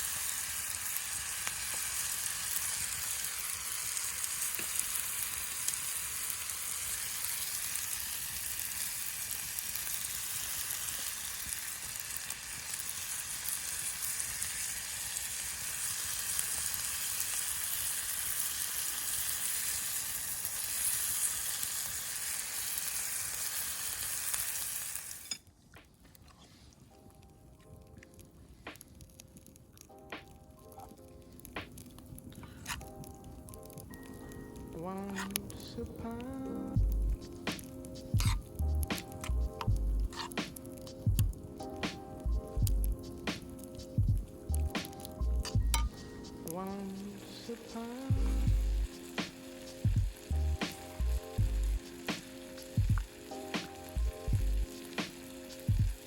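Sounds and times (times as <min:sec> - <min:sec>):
food sizzling in a pan: 0:00.0 - 0:25.5, 0:32.4 - 0:56.0.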